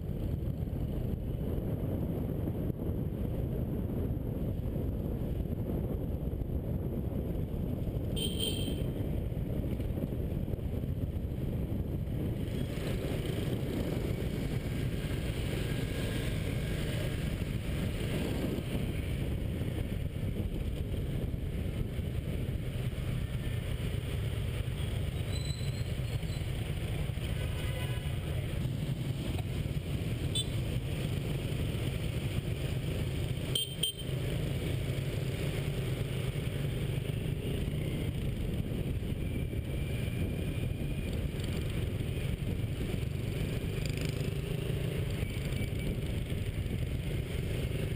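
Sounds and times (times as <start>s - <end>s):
motorbike engine rumble: 0.0s - 47.9s
wind on microphone: 0.0s - 47.9s.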